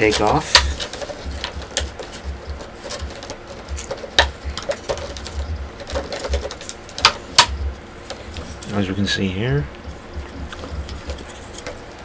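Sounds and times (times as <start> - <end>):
hard plastic clicking and rustling: 0.0 - 8.5, 9.8 - 12.0.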